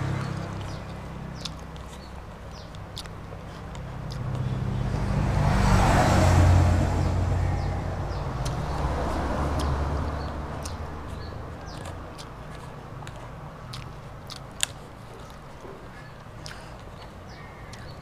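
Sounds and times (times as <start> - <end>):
vehicle passing by: 0.0 - 18.0.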